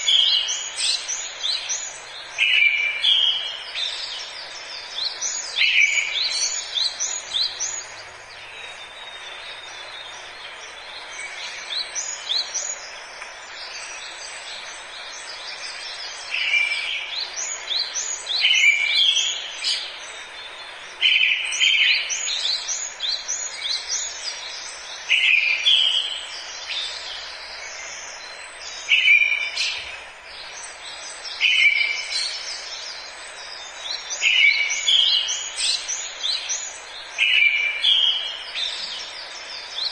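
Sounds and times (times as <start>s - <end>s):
background ambience hiss: 0.0s - 39.9s
songbirds chirping: 0.0s - 39.9s.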